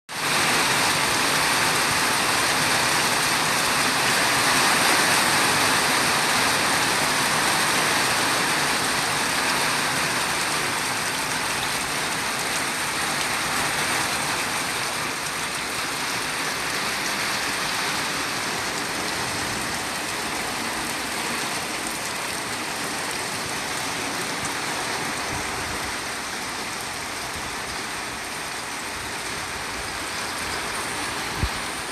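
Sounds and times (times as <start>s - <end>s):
heavy rain pouring: 0.1s - 31.9s.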